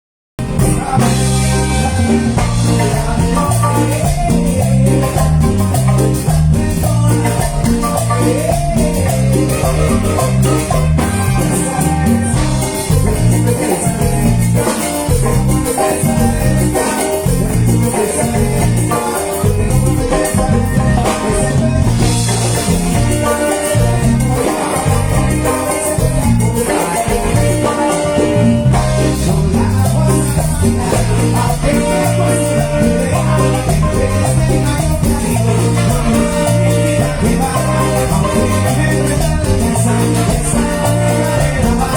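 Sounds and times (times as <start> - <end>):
bass line: 0.4 - 41.9
marimba melody: 0.4 - 41.9
percussion rhythm: 0.4 - 41.9.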